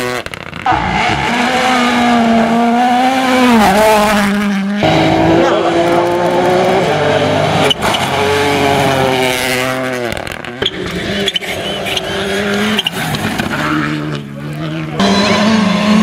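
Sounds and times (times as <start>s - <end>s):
rally car engines revving: 0.0s - 16.0s.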